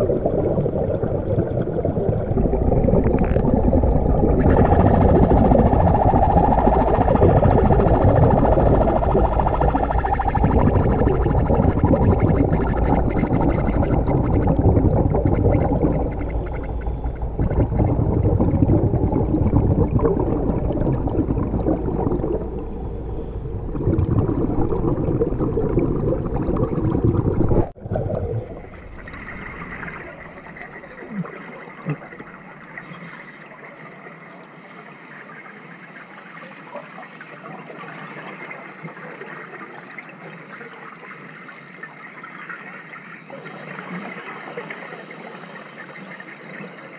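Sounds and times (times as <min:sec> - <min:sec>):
underwater rushing and bubbling: 0:00.0 - 0:46.9.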